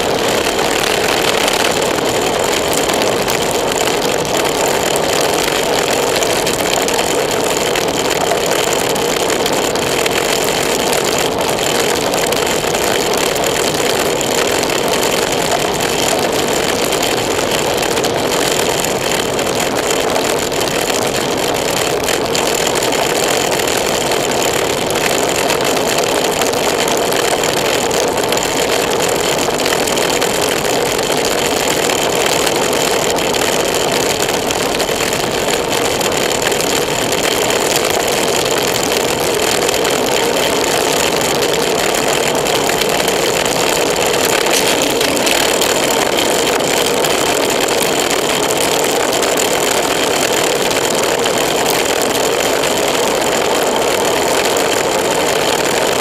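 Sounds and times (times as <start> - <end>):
road noise: 0.0 - 55.9
wind rush on microphone: 0.0 - 56.0.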